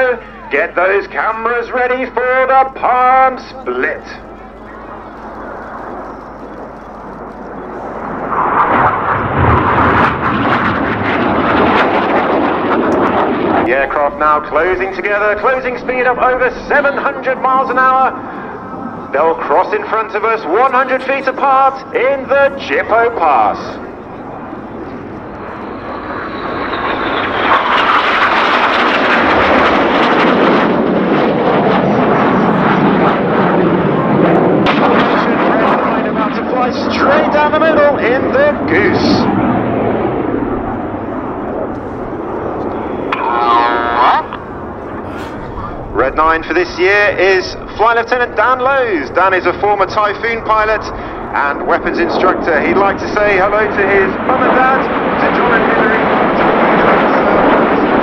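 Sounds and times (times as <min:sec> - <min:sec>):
jet aircraft flying past: 0:00.0 - 0:58.0.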